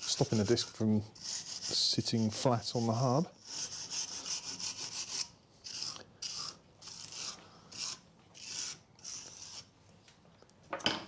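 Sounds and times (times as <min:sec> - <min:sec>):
hand tool scraping metal: 0:00.0 - 0:09.8.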